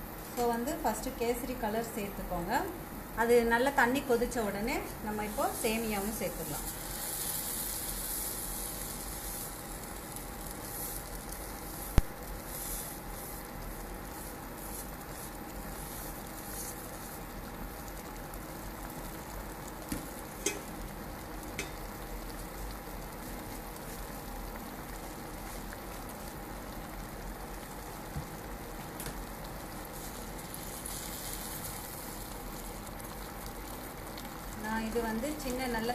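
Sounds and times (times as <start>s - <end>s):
water boiling: 0.0s - 35.9s.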